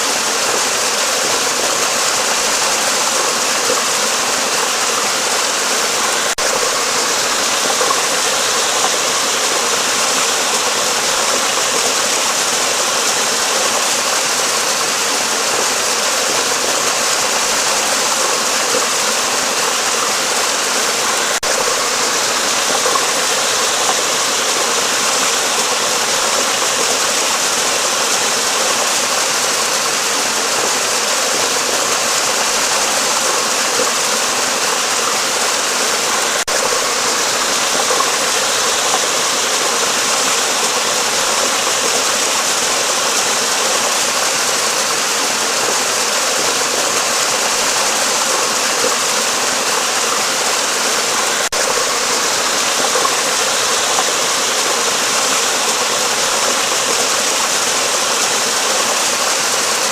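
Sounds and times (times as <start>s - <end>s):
water rushing over stones: 0.0s - 59.9s.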